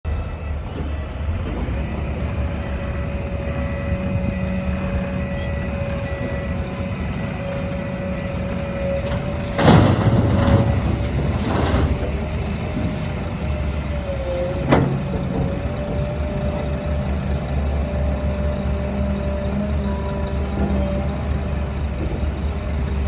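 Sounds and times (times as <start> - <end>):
diesel machinery rumble: 0.0 - 23.0.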